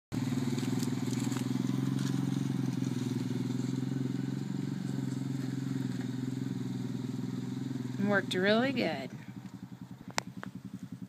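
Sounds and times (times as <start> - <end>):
small engine running steadily: 0.1 - 11.0.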